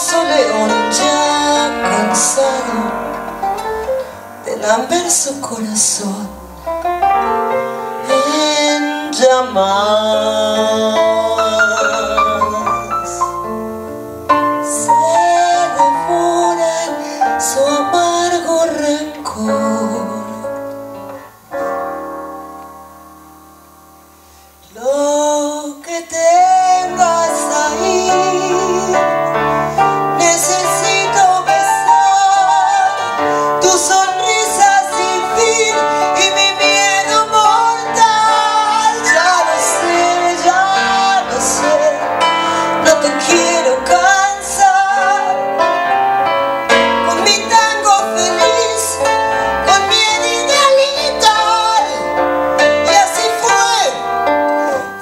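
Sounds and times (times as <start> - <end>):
woman singing: 0.0 - 3.4, 4.4 - 6.6, 8.0 - 13.4, 14.6 - 21.0, 24.6 - 45.6, 47.0 - 55.0
live band playing: 0.0 - 24.7, 26.2 - 55.0.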